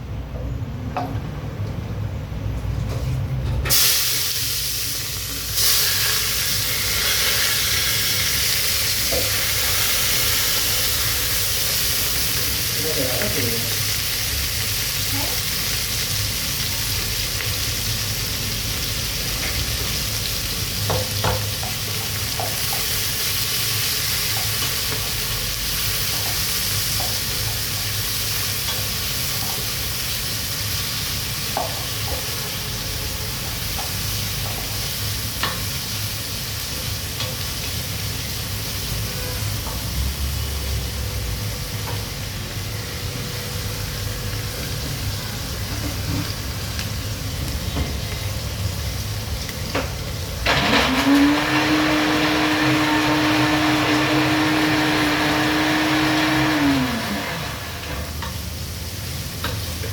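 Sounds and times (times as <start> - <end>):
food sizzling in a pan: 3.7 - 41.0, 41.6 - 59.9.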